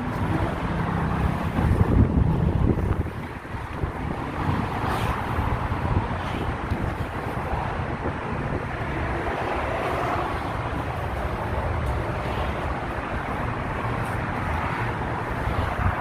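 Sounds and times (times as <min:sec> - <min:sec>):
road traffic noise: 0:00.0 - 0:16.0
wind buffeting microphone: 0:00.0 - 0:16.0.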